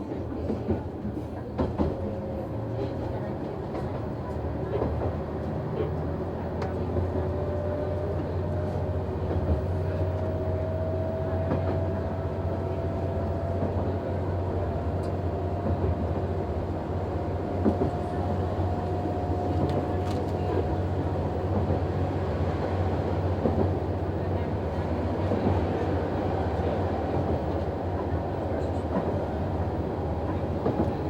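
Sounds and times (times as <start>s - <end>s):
diesel railcar engine drone: 0.0s - 31.0s.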